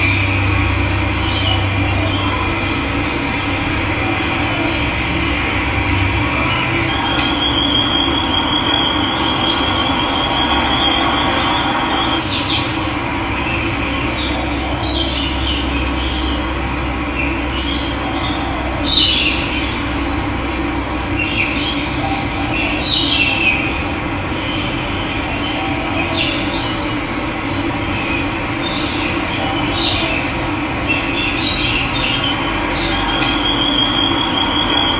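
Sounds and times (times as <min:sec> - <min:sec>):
birds calling: 0:00.0 - 0:34.9.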